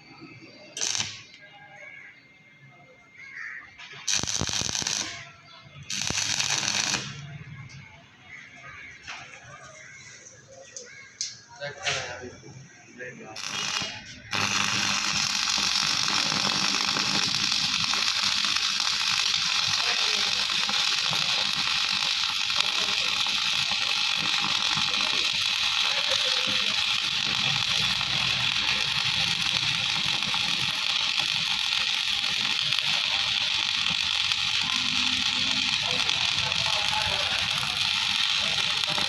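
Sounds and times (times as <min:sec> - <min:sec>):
welding arc crackling: 0:00.4 - 0:02.2, 0:03.2 - 0:10.2, 0:13.3 - 0:39.0.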